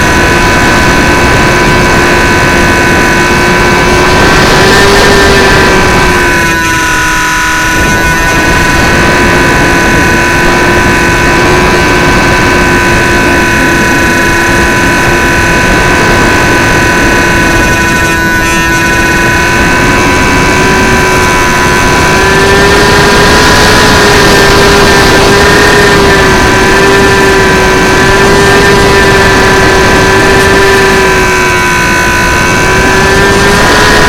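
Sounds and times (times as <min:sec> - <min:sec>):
electric motor and propeller whine: 0:00.0 - 0:34.0
wind rush on microphone: 0:00.0 - 0:34.0.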